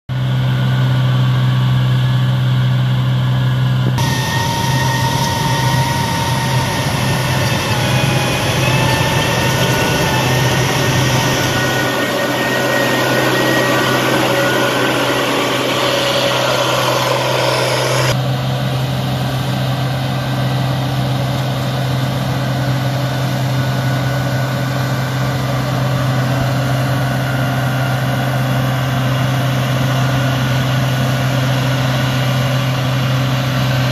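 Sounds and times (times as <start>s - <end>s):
harvester engine droning: 0.1s - 33.9s
machine whine and rattle: 0.2s - 33.9s.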